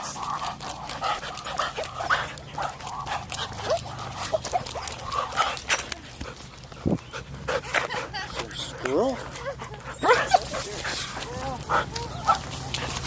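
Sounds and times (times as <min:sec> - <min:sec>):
clicks and rustles: 0:00.0 - 0:13.0
dogs whining and yipping: 0:00.0 - 0:13.0.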